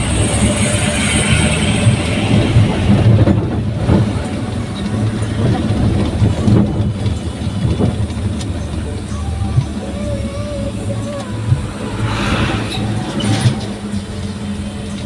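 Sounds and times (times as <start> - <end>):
pickup engine droning: 0.0 - 15.0
road and wind noise: 0.0 - 15.0.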